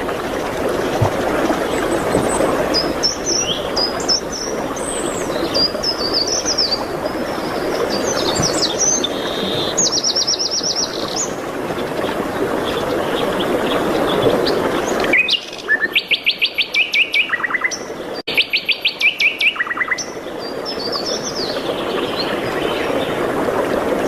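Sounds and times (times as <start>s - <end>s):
songbirds chirping: 0.2s - 23.2s.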